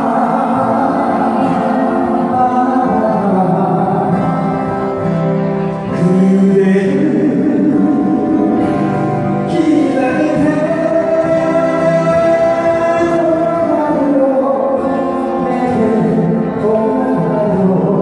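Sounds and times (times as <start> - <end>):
group singing slow ballad: 0.0 - 5.3, 5.9 - 18.0
acoustic guitars: 0.0 - 18.0.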